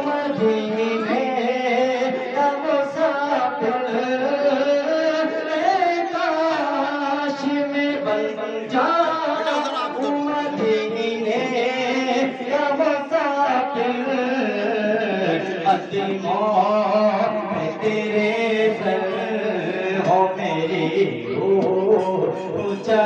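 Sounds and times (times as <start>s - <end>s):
man singing devotional melody: 0.0s - 23.0s.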